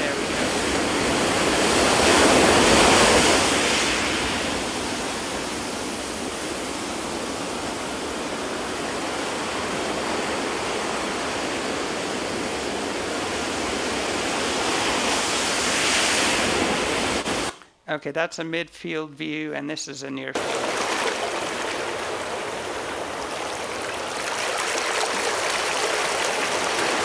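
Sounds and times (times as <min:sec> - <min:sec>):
ocean surf over loudspeakers: 0:00.0 - 0:17.6, 0:18.8 - 0:27.0.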